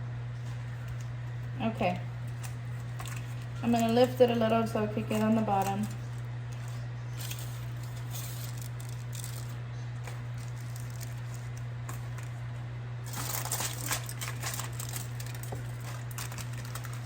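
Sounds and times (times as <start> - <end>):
steady low hum: 0.0 - 17.0
wet crackling and rustling: 0.4 - 17.0.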